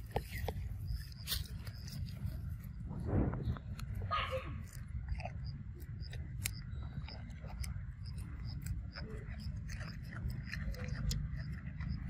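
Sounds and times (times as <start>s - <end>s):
monkey chewing corn: 0.0s - 2.8s, 3.5s - 12.0s.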